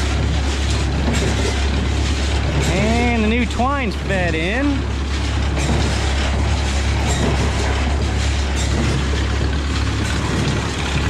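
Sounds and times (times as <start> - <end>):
baler mechanism rattling: 0.0 - 11.0
tractor engine humming: 0.0 - 11.0.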